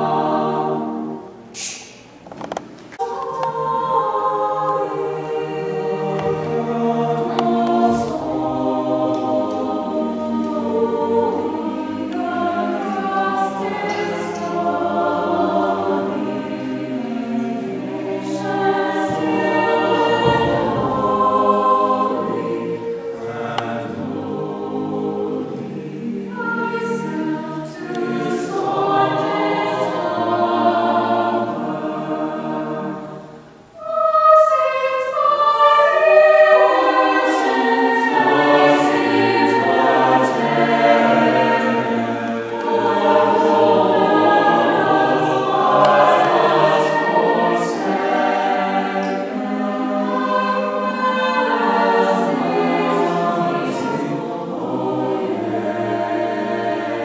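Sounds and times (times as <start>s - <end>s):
choir singing in parts: 0.0s - 57.0s.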